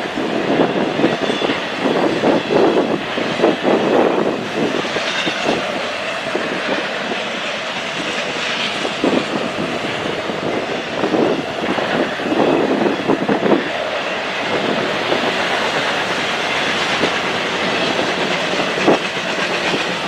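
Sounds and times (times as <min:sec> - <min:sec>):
railroad car wheels clattering: 0:00.0 - 0:20.0
train rumble: 0:00.0 - 0:20.0.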